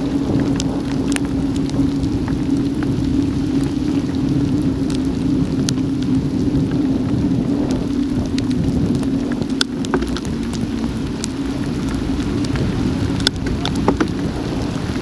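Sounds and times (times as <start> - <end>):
heavy rain rushing: 0.0 - 15.0
raindrops ticking on camera: 0.0 - 15.0.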